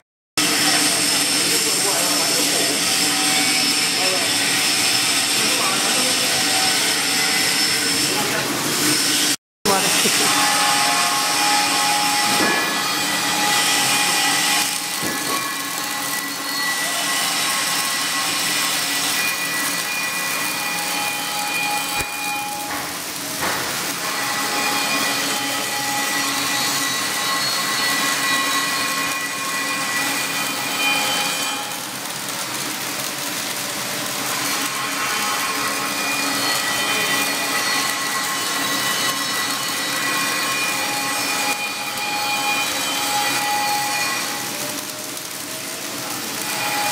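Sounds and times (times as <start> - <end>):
welding arc crackling and hissing: 0.4 - 46.9.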